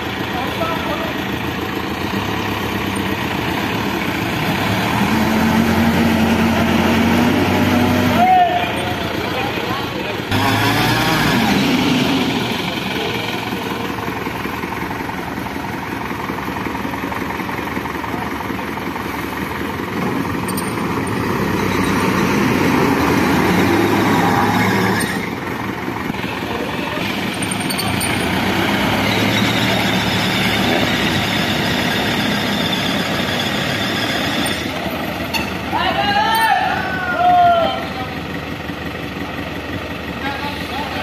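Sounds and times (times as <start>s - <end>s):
truck engine running hard: 0.0s - 41.0s.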